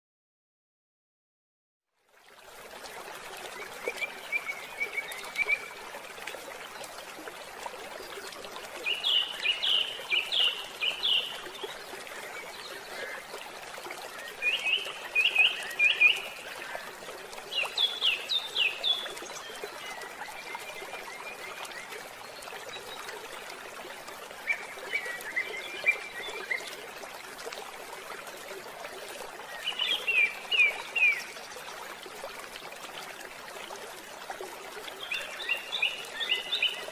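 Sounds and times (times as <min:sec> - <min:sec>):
flowing stream: 0:01.9 - 0:36.9.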